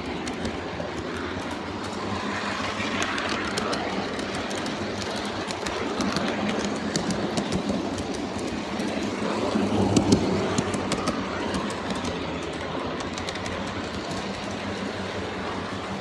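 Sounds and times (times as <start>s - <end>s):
model train rolling on track: 0.0s - 16.0s
wheels clicking over rail joints: 0.0s - 16.0s.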